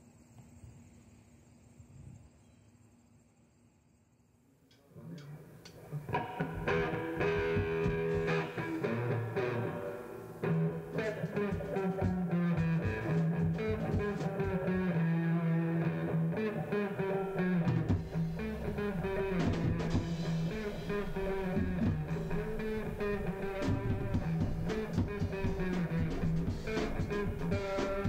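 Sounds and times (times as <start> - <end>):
guitar music with bass line: 5.0 - 28.0.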